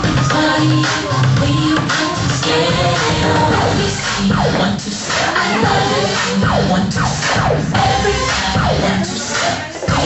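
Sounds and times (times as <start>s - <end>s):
electronic funk dance music: 0.0s - 10.0s.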